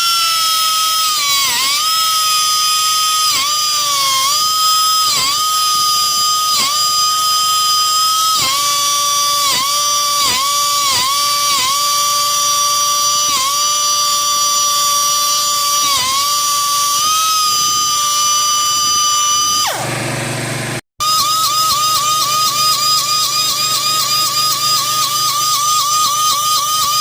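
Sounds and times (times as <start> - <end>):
pulsing whine: 0.0 - 20.0, 21.0 - 27.0
grinder high-pitched whine: 0.0 - 27.0.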